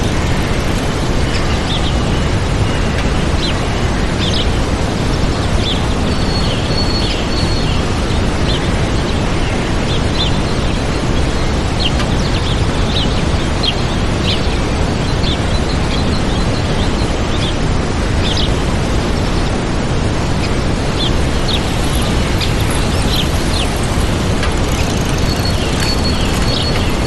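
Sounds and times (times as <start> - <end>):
small birds chirping: 0.0 - 27.0
waterfall rushing: 0.0 - 27.0.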